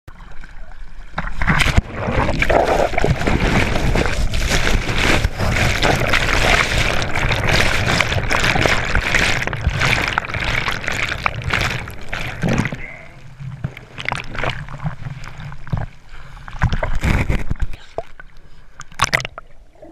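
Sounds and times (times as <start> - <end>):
sea water churning and splashing: 0.1 - 19.9.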